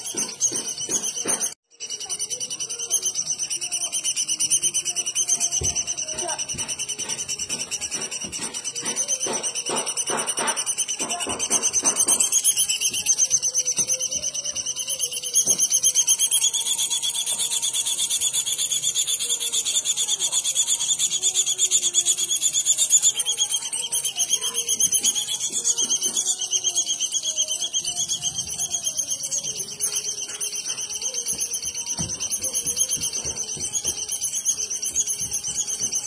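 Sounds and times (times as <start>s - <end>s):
bird's high pulsing trill: 0.0s - 36.0s.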